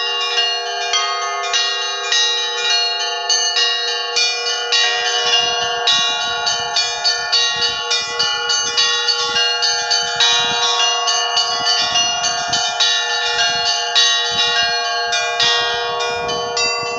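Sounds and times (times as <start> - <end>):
higher church bells chiming: 0.0 - 16.9
lower bells ringing: 0.0 - 16.9.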